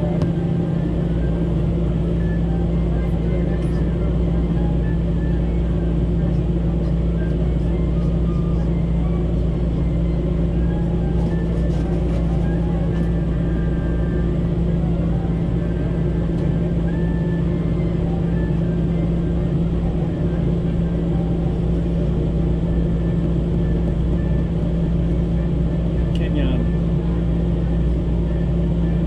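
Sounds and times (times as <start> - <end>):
moving train rumble: 0.0 - 29.0.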